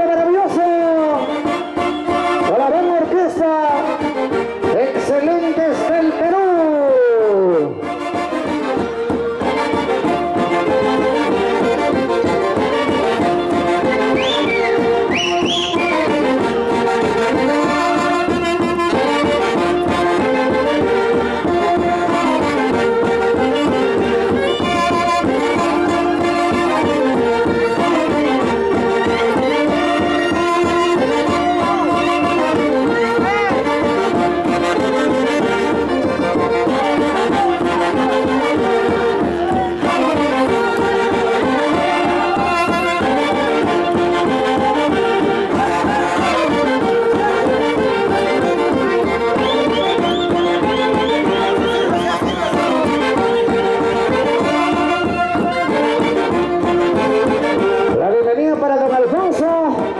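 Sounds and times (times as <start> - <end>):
live band dance music: 0.0 - 59.9.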